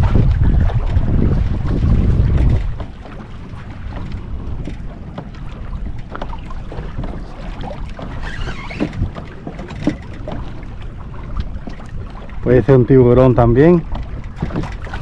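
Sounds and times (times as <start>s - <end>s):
water lapping against a hull: 0.0s - 15.0s
wind on microphone: 0.0s - 15.0s.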